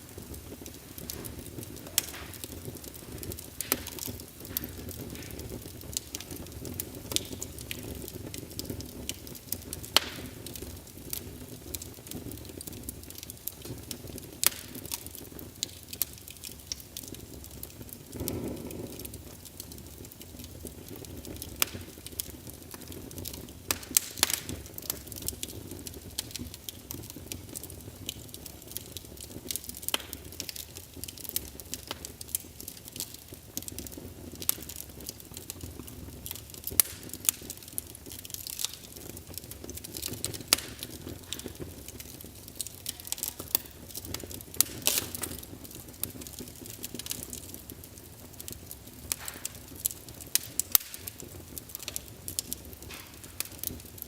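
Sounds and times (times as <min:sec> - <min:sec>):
logs crackling and popping: 0:00.0 - 0:54.0
low rush of flame: 0:00.0 - 0:54.0.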